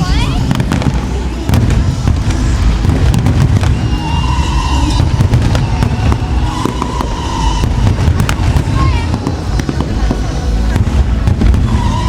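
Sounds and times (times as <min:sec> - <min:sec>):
steady high tone: 0:00.0 - 0:12.0
fireworks crackling pops: 0:00.2 - 0:12.0
fireworks shell bursts rumbling: 0:00.4 - 0:12.0.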